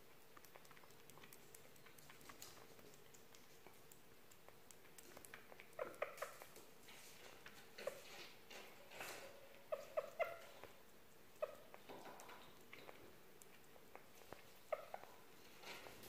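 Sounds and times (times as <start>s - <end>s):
small animal chewing: 0.0s - 16.0s
small pitched eating noises: 0.0s - 16.0s.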